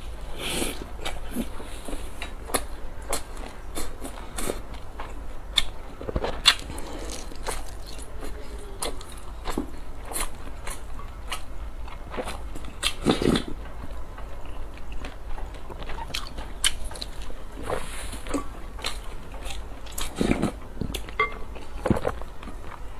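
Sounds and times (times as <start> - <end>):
wet chewing and mouth clicks: 0.6 - 22.8.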